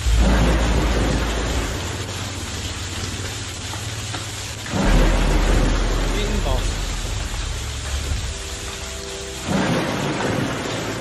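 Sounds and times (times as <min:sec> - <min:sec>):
deep rumble: 0:00.0 - 0:11.0
hail and rain pelting pavement: 0:00.0 - 0:11.0.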